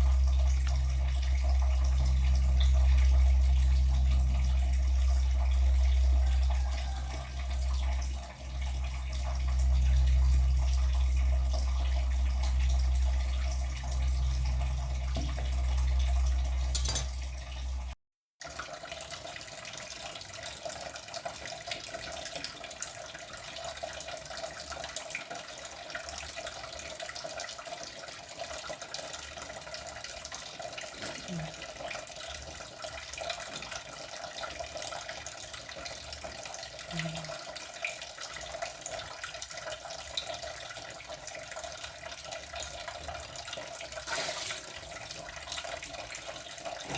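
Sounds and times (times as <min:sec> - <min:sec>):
tap water running into sink: 0:00.0 - 0:46.9.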